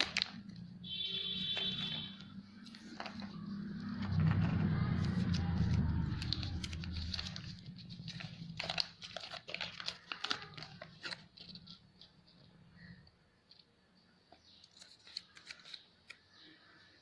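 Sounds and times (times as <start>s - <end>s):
plastic wrapper crinkling and tearing: 0.0s - 12.9s, 14.7s - 16.2s.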